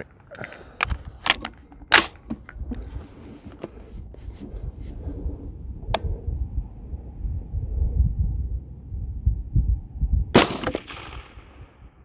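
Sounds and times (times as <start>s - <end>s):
wind rumble on microphone: 0.8s - 12.0s.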